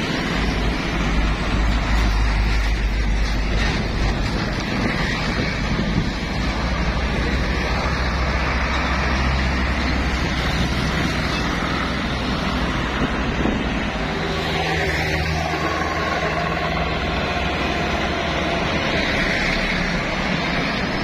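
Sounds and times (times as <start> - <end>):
heavy trucks passing: 0.0 - 21.0
motorbikes passing: 0.0 - 21.0.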